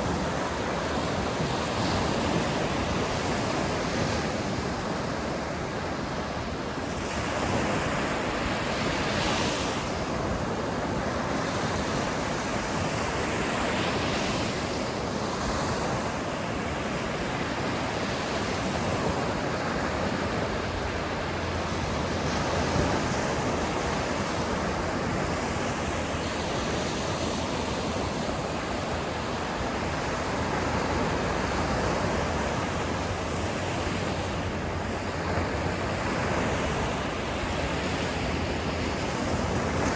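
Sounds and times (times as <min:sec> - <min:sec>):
ocean waves on a beach: 0:00.0 - 0:39.9
wind on microphone: 0:00.0 - 0:39.9.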